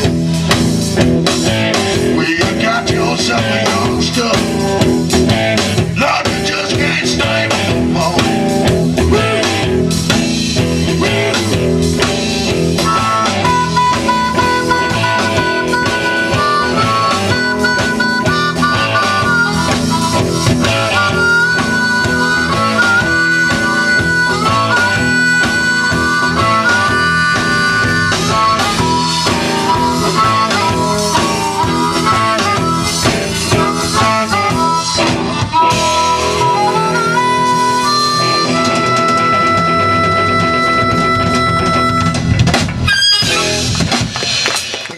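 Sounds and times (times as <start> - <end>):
harmonica lead: 0.0 - 44.0
blues-rock band playing: 0.0 - 44.9.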